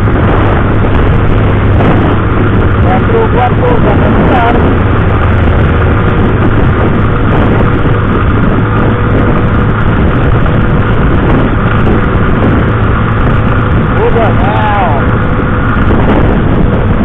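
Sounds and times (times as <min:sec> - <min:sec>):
low engine hum: 0:00.0 - 0:17.0
wind rushing over microphone: 0:00.0 - 0:17.0.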